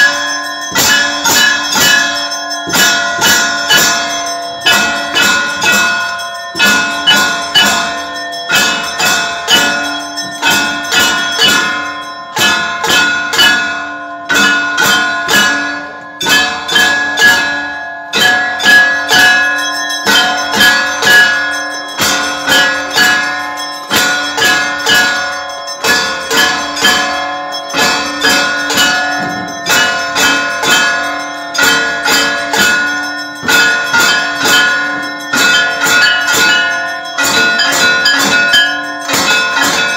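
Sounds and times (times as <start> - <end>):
temple bells ringing: 0.0 - 39.9.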